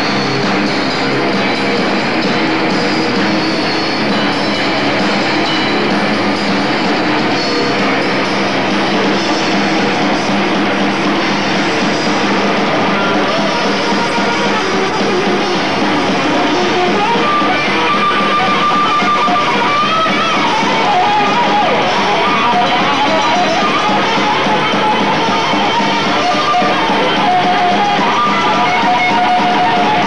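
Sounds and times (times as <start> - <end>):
death metal band playing live: 0.0 - 30.0
high bending guitar line: 0.0 - 30.0.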